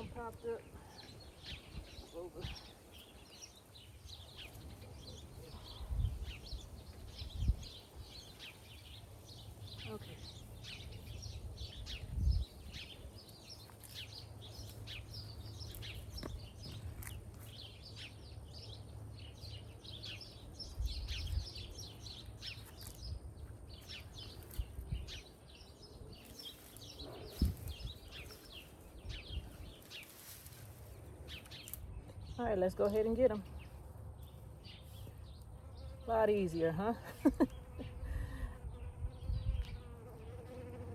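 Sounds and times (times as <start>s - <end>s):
small birds chirping: 0.0s - 40.8s.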